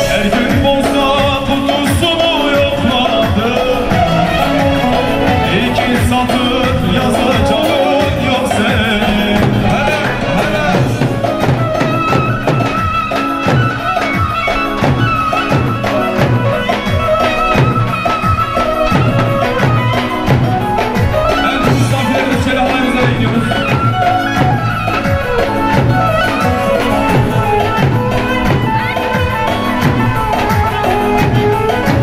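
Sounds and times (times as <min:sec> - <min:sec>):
steady drum beat: 0:00.0 - 0:32.0
sustained melody line: 0:00.0 - 0:32.0.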